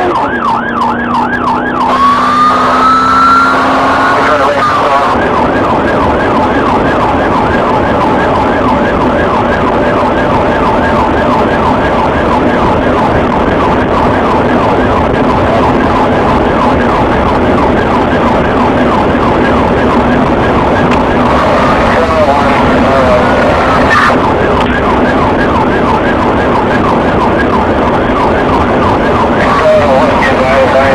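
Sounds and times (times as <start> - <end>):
car engine and road noise: 0.0 - 30.9
police siren yelping: 0.0 - 30.9.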